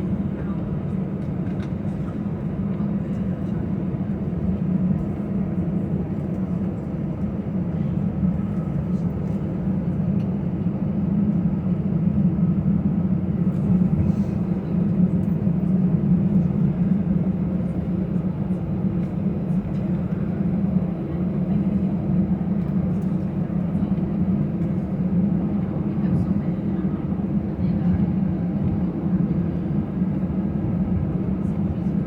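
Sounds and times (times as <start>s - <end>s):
aircraft engines idling: 0.0s - 32.0s.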